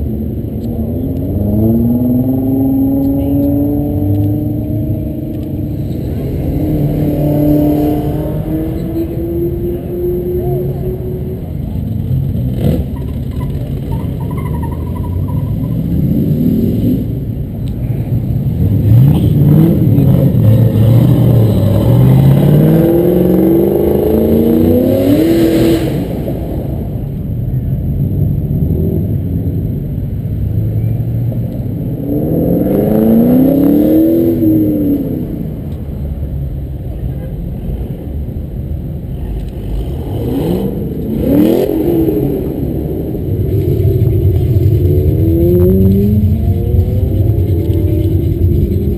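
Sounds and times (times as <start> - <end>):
idling traffic rumble: 0.0 - 48.9
sports car engines revving: 0.0 - 48.9.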